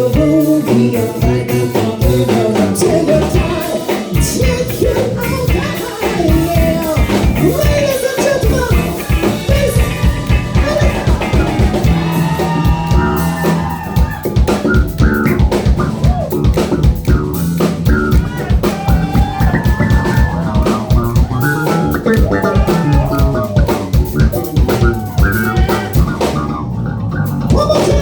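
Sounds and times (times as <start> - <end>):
bass guitar: 0.0 - 28.0
drum kit beat: 0.0 - 28.0
electric guitar: 0.0 - 28.0.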